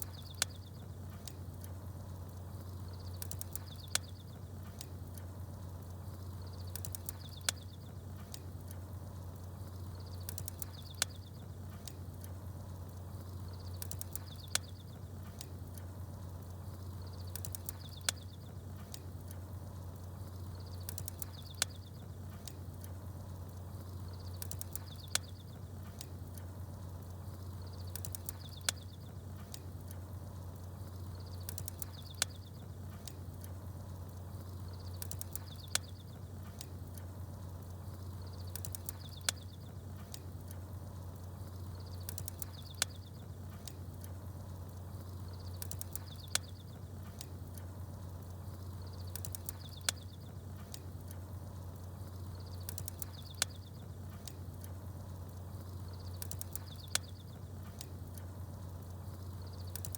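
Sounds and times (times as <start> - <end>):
campfire crackling and popping: 0.0 - 59.9
small birds chirping: 0.0 - 59.9
steady low hum: 0.0 - 59.9.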